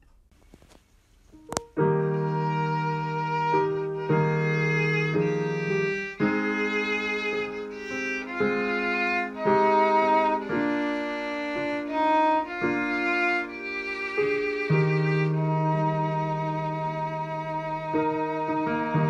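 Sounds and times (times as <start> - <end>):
slow instrumental melody: 1.3 - 19.0.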